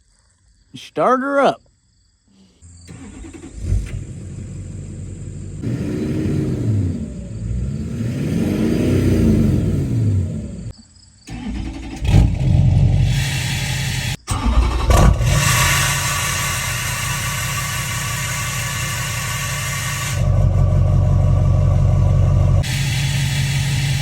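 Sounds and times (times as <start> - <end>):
diesel engine revving: 2.8 - 10.7, 11.3 - 24.0.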